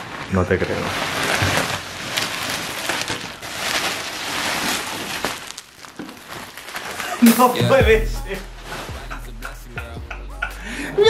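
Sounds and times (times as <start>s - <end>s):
bubble wrap and plastic crinkling: 0.0s - 10.2s.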